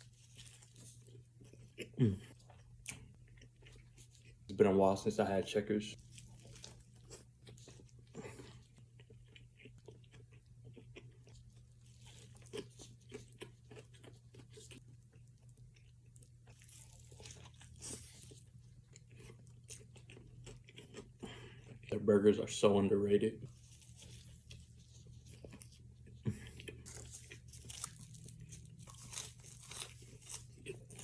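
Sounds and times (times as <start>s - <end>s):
person chewing and crunching: 0.0s - 4.5s, 6.0s - 22.0s, 23.4s - 31.0s.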